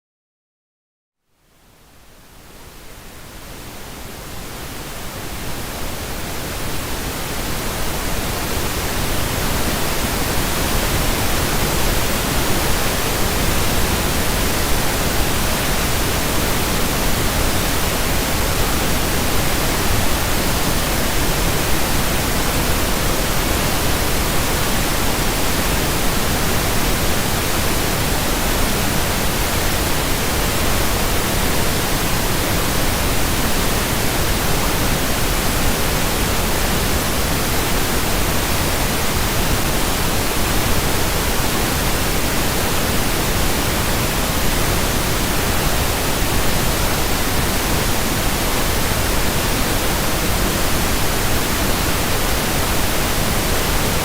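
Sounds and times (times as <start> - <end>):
pink noise hiss: 1.2 - 54.0.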